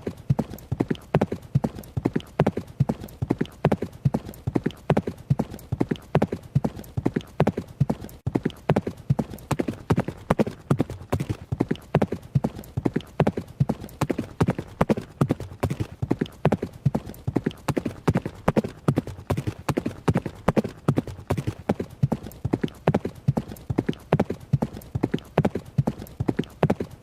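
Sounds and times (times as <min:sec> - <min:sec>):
horse hooves running: 0:00.0 - 0:27.0.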